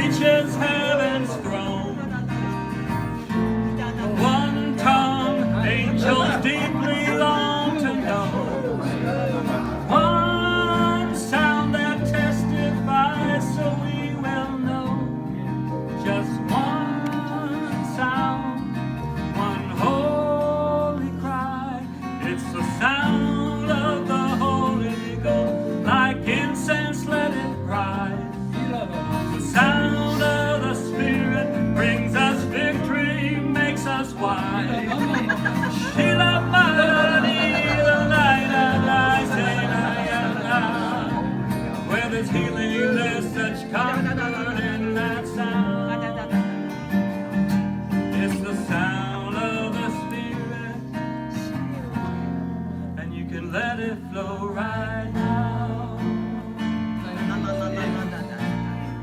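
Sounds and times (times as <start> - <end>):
man singing: 0.0 - 47.0, 48.1 - 52.2, 53.0 - 59.0
acoustic guitar: 0.0 - 59.0.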